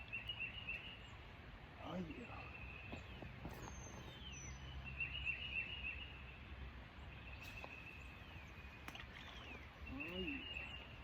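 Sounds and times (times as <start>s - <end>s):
birds whistling and trilling: 0.0s - 11.0s.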